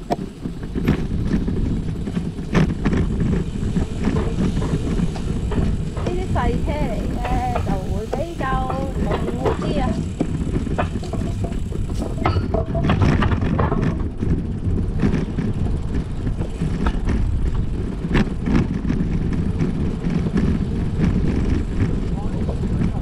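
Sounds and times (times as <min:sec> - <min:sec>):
bicycle clicks and rattles: 0:00.0 - 0:23.0
wind and road noise: 0:00.0 - 0:23.0.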